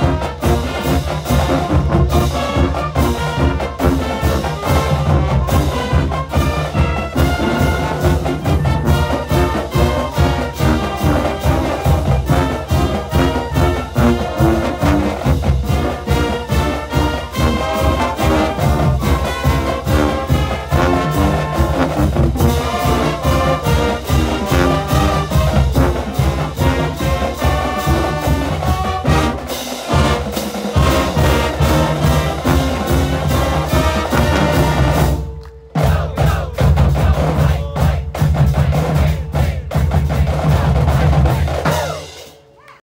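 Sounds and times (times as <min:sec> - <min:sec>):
marching band playing: 0:00.0 - 0:42.6.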